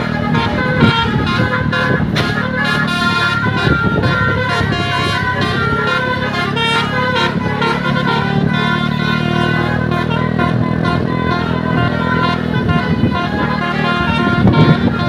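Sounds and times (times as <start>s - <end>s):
bus engines running: 0.0s - 15.0s
bus horns playing melody: 0.0s - 15.0s.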